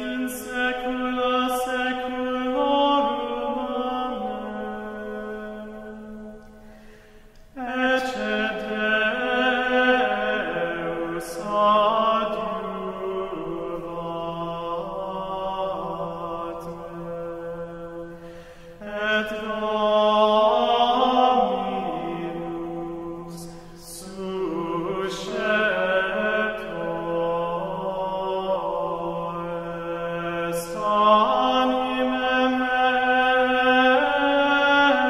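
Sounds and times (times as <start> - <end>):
slow vocal chant: 0.0 - 35.0.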